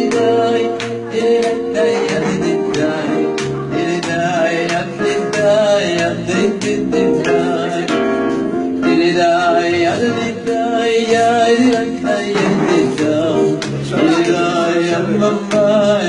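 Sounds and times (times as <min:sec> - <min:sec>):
instrumental backing music: 0:00.0 - 0:16.0
man singing into microphone: 0:00.0 - 0:16.0.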